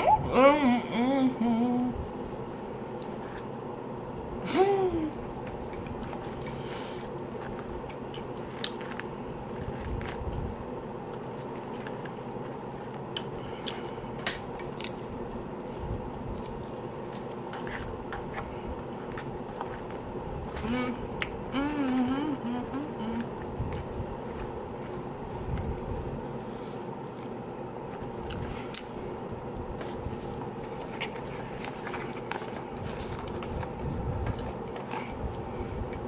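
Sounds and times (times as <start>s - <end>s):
small crunches and mouth clicks: 5.3s - 21.5s, 23.2s - 36.0s
person chewing food: 5.3s - 22.0s, 22.7s - 36.0s.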